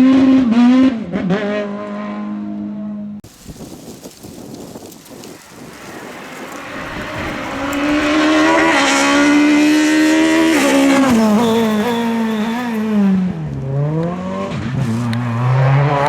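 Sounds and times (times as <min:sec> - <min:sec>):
rally car engine at full throttle: 0:00.0 - 0:03.2, 0:05.4 - 0:16.0.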